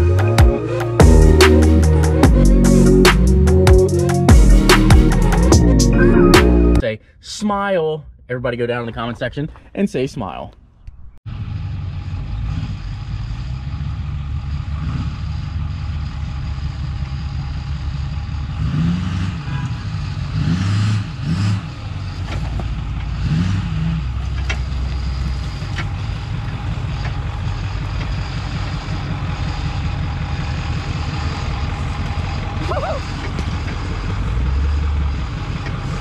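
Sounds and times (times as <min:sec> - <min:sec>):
truck engine revving: 0:00.0 - 0:06.8, 0:11.3 - 0:36.0.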